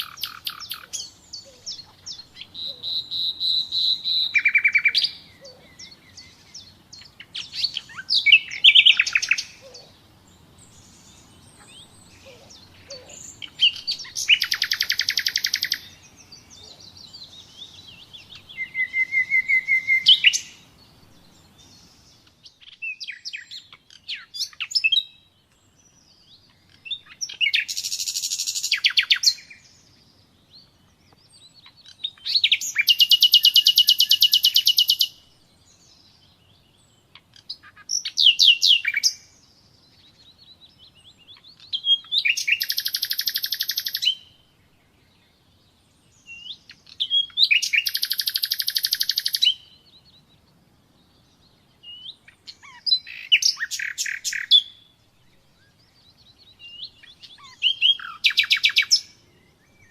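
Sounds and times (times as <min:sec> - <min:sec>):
nightingale singing: 0:00.0 - 0:59.9.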